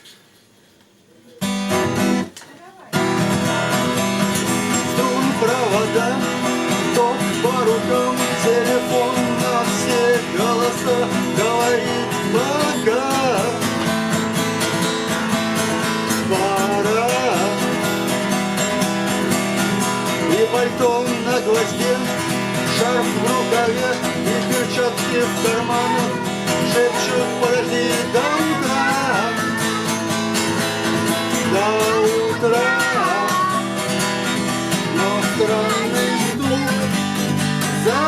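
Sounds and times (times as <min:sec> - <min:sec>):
acoustic guitar chords: 0:01.4 - 0:38.0.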